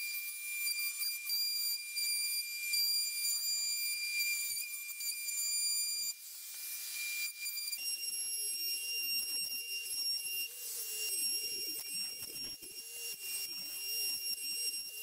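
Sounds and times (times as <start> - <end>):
router high-pitched whine: 0.0 - 15.0.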